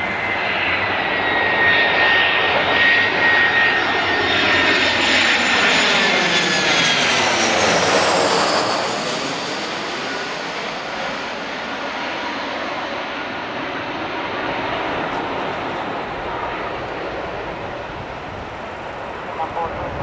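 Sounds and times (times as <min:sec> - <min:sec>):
jet airliner passing by: 0:00.0 - 0:20.0.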